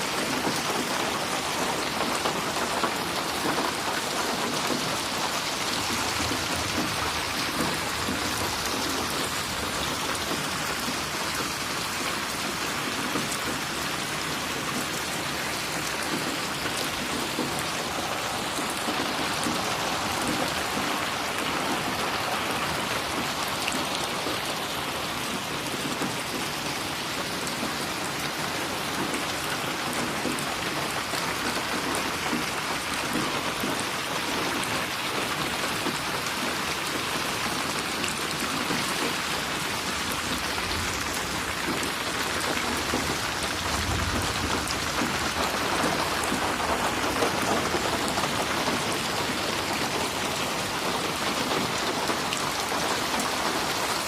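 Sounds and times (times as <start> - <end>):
rain splashing on a surface: 0.0 - 54.0.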